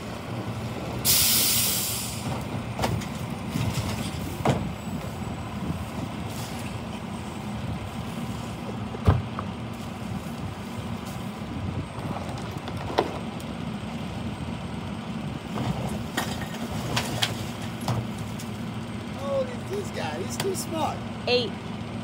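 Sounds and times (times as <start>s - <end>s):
garbage truck engine idling: 0.0s - 22.0s.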